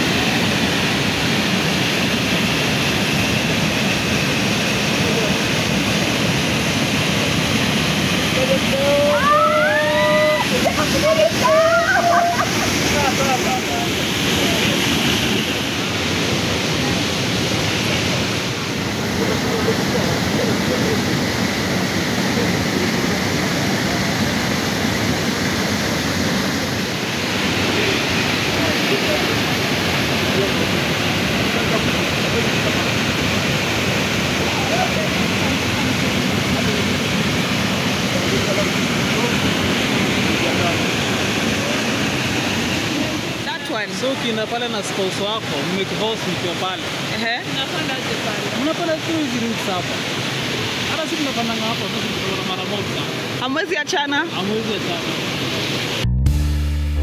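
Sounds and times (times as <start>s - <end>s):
small waterfall rushing: 0.0s - 56.1s.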